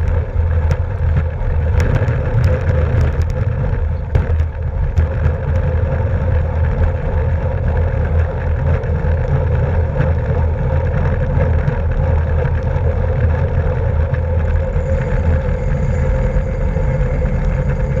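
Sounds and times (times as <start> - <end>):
bicycle road rumble: 0.0 - 18.0
wind on microphone: 0.0 - 18.0.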